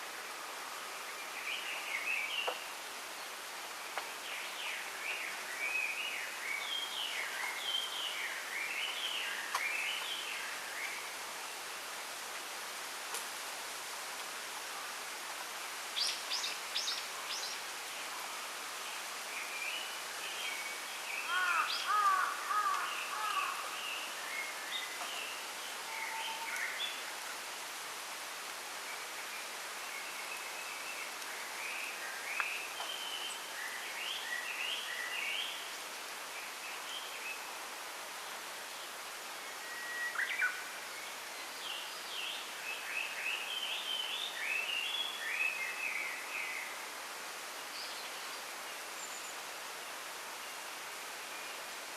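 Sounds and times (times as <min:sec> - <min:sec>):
wind through bamboo: 0:00.0 - 0:51.9.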